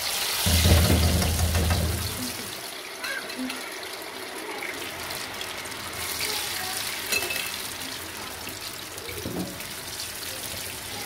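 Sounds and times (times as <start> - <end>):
fries sizzling in hot oil: 0.0 - 11.0.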